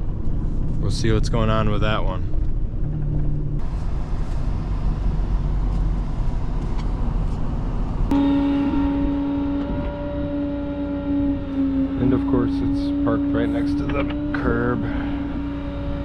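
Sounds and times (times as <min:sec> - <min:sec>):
steady hum with overtones: 0:00.0 - 0:16.0
truck engine and road rumble: 0:00.0 - 0:16.0.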